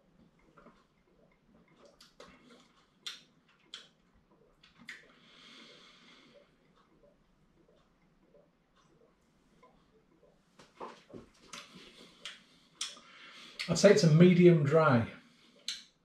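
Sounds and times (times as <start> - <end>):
mouth clicks and smacks: 0.2 - 13.7, 15.6 - 16.0.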